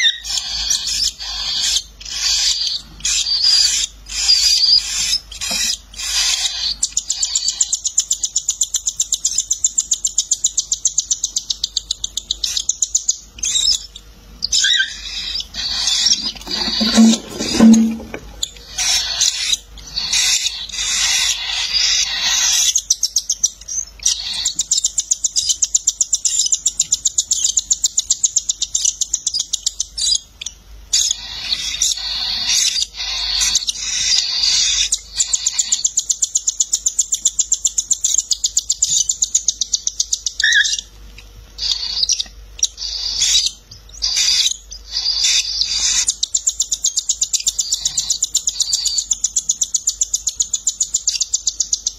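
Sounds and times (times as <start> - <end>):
chicks begging calls: 0.0 - 51.9.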